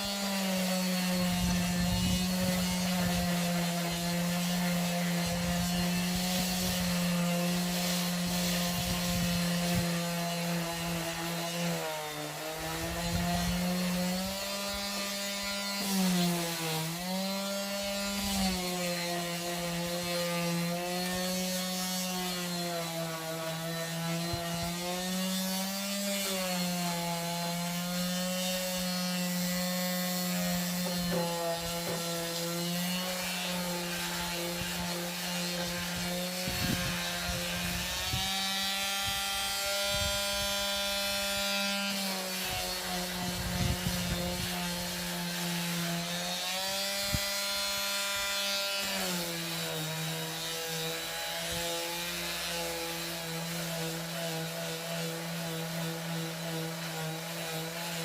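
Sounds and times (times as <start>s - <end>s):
electric sander motor hum: 0.0s - 58.0s
sandpaper hissing on wood: 0.0s - 58.0s.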